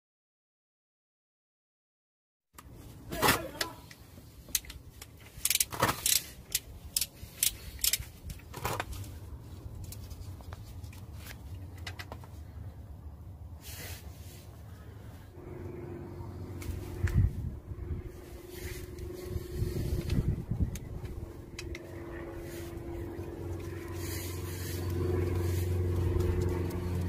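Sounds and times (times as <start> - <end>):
low hum: 2.6 - 27.0.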